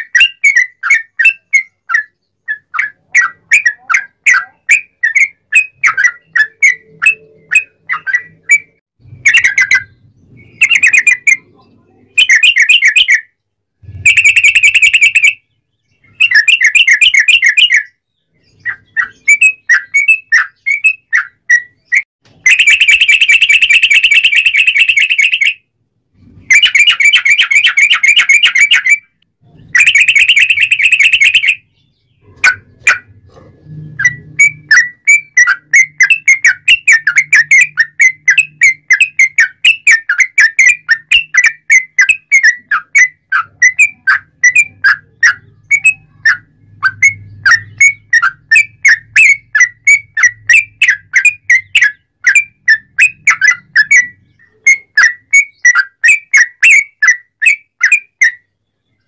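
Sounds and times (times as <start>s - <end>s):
bird chirping notes: 0.0s - 59.0s.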